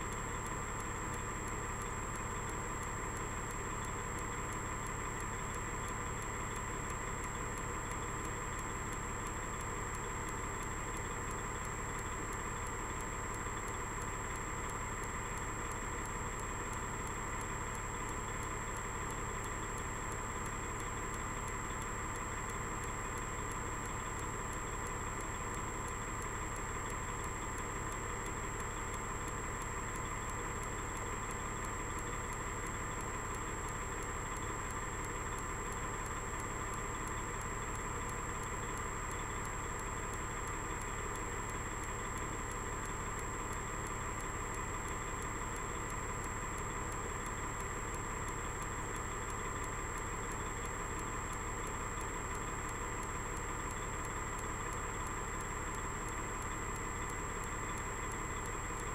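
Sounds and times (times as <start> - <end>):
constant high-pitched whine: 0.0 - 58.9.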